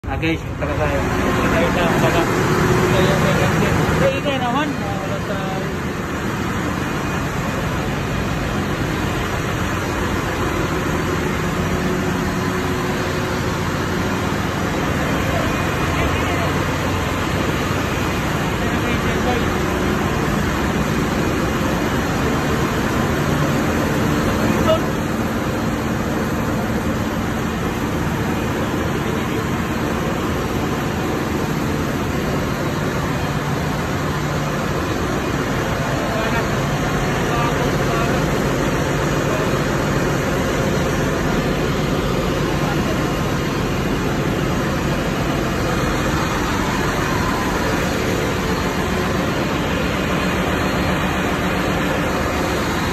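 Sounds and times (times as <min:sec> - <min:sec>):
engine room machinery din: 0:00.0 - 0:52.9.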